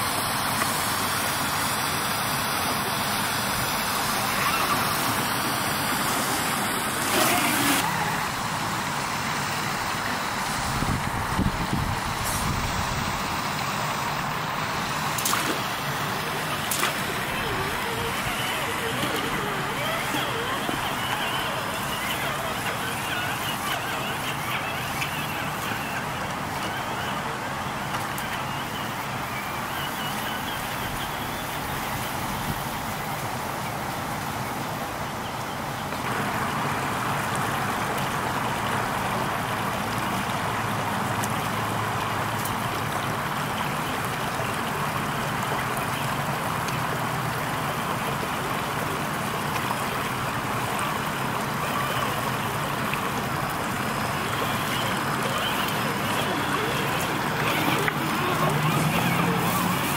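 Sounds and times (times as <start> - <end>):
creek water rushing over rocks: 0.0 - 59.9.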